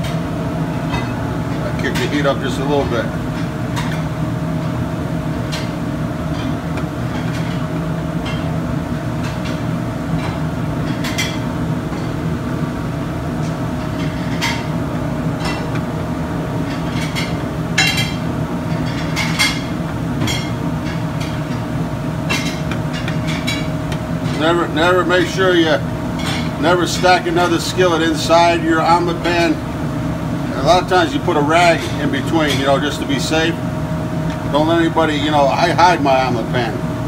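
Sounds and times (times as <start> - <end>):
kitchen rumble: 0.0 - 33.6.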